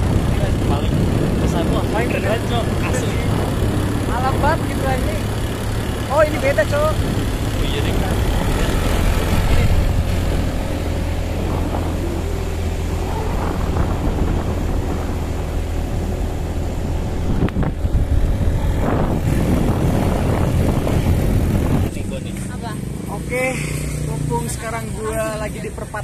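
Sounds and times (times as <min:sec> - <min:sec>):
scooter engine running: 0:00.0 - 0:26.0
wind rush on microphone: 0:00.0 - 0:26.0.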